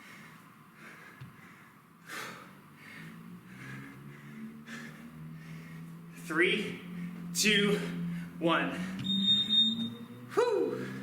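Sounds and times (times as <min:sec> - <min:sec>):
man breathing hard: 0:00.0 - 0:09.0, 0:10.4 - 0:11.0.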